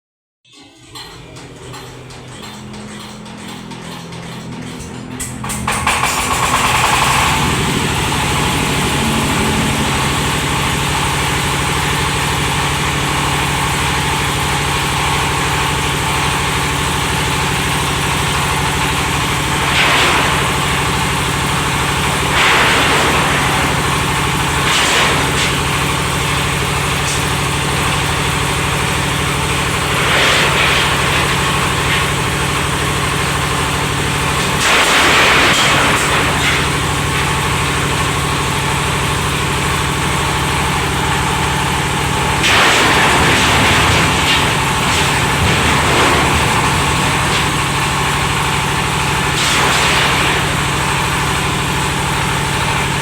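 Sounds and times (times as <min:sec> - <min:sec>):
thresher machine engine running: 0:01.0 - 0:53.0.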